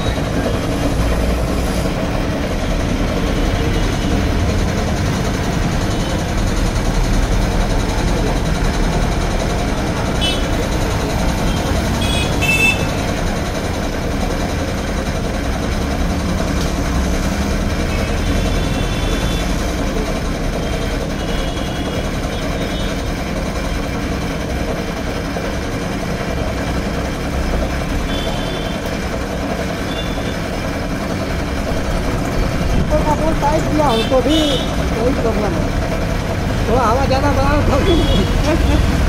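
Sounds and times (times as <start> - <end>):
air compressor running: 0.0 - 39.0.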